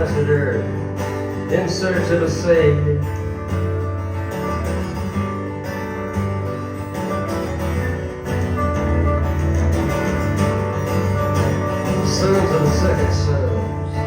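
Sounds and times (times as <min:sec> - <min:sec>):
bass: 0:00.0 - 0:14.0
strummed guitar: 0:00.0 - 0:14.0.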